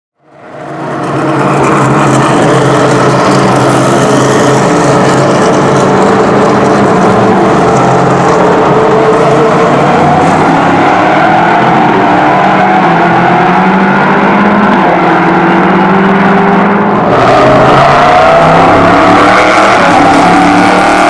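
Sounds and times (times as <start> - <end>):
race car engines running: 0.2 - 21.0.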